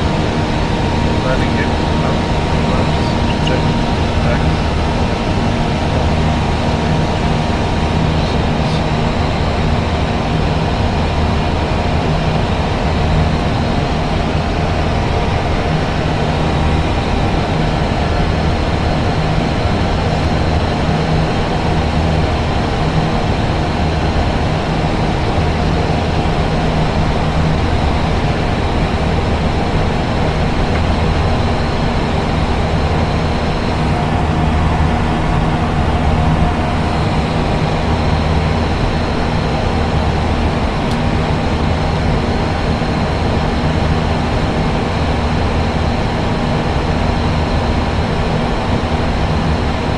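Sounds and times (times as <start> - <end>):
jet engines in flight: 0.0 - 49.9.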